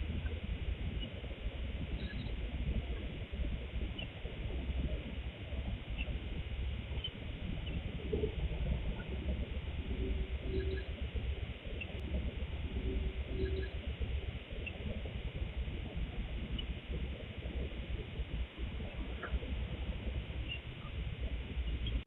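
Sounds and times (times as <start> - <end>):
microphone hiss: 0.0 - 22.0.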